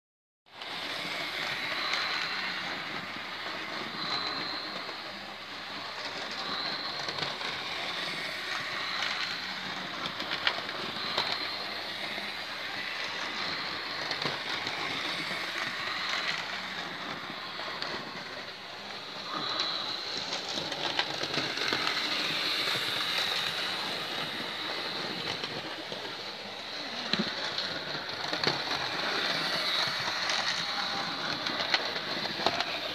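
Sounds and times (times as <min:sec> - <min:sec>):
electric motor whine: 0:00.5 - 0:32.9.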